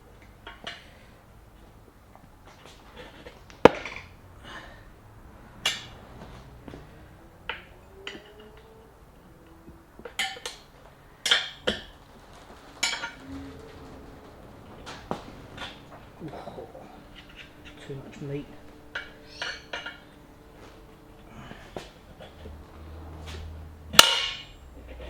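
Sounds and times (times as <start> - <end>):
metal tyre levers clinking on rim: 0.0 - 4.8, 5.6 - 25.0.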